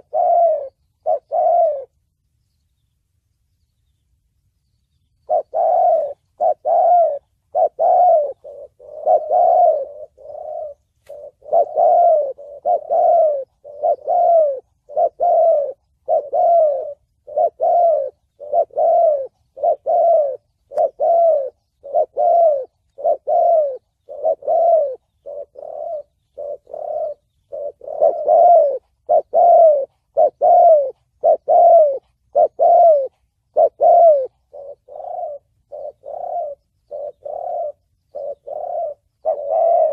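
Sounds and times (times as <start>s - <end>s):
dove cooing: 0.0s - 2.2s, 5.2s - 39.9s.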